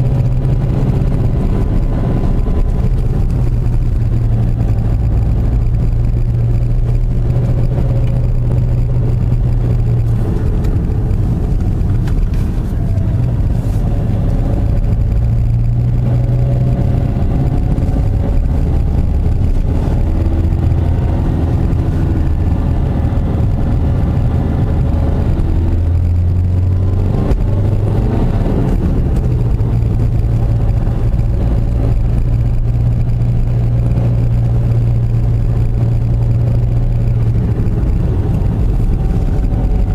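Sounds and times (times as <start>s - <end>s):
car engine running: 0.0s - 39.9s
tyre and road noise: 0.0s - 39.9s.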